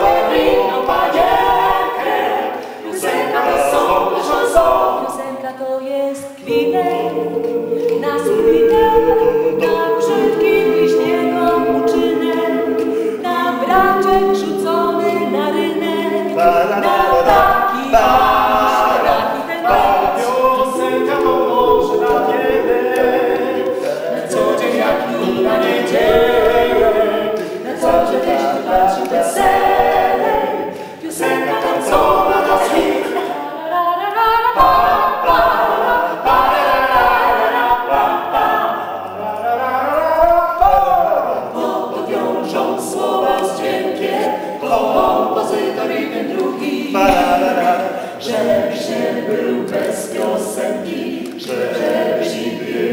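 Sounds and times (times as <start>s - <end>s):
a cappella group singing: 0.0s - 52.9s.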